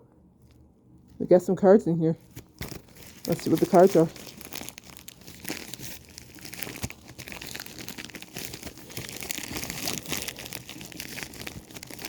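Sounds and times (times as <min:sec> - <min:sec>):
packaging crinkling and tearing: 0:02.2 - 0:12.0.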